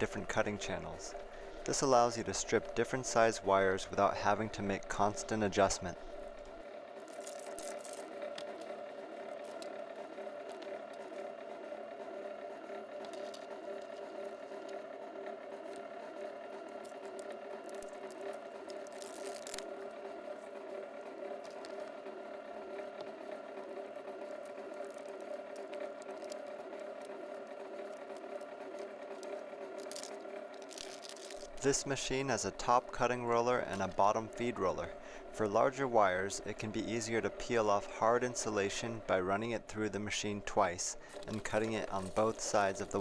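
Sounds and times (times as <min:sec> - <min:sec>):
wire scraping and rattling: 0:00.0 - 0:11.4, 0:12.1 - 0:43.0
electric motor humming: 0:00.0 - 0:43.0.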